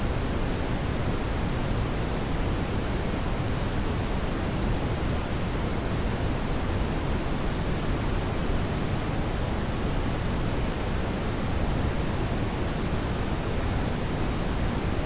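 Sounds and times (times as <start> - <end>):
brown noise hiss: 0.0 - 15.0.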